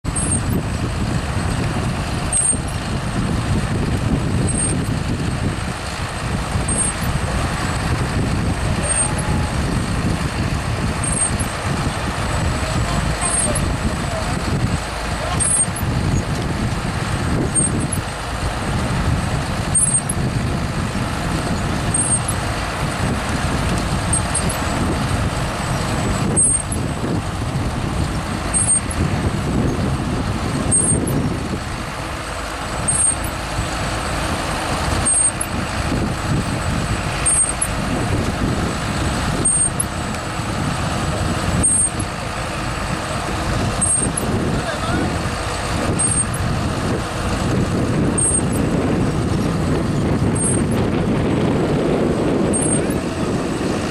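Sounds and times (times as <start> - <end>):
tractor diesel engine under load: 0.0 - 53.9
harvester digging and elevating gear: 0.1 - 53.9.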